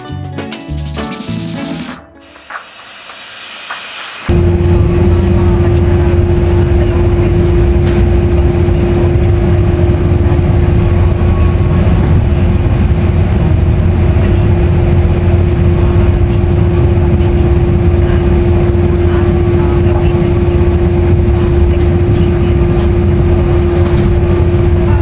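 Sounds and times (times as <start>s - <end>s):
constant hum: 3.7s - 25.0s
vehicle interior rumble: 4.3s - 25.0s.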